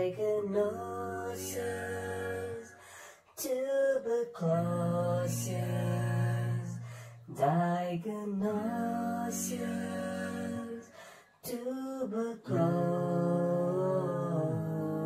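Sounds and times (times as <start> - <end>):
slow song with held notes: 0.0 - 15.0.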